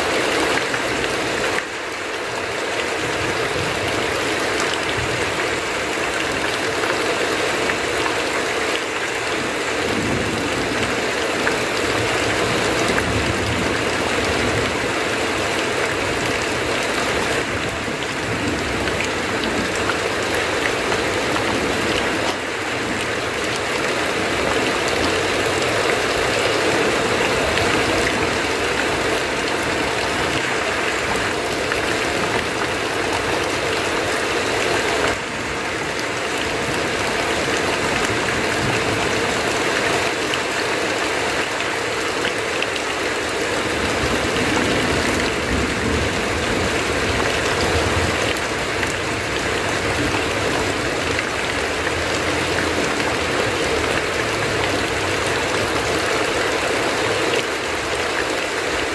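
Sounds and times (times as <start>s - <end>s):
heavy rain on a tin roof: 0.0s - 58.9s
water pouring off eaves: 0.0s - 58.9s.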